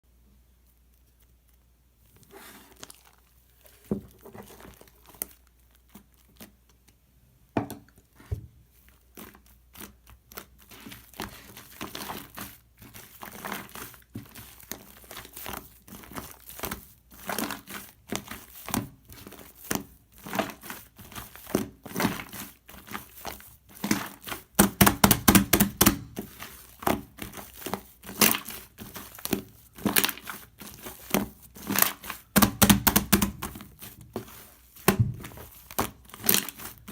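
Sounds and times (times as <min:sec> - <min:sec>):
slime crackling and popping: 0:02.4 - 0:07.0, 0:08.9 - 0:36.9.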